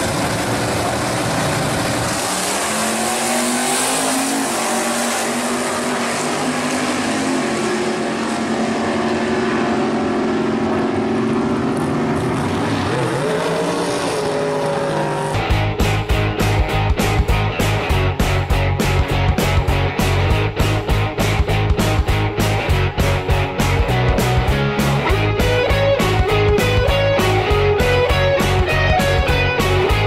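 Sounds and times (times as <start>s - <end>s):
drag cars racing at full throttle: 0.0s - 30.0s.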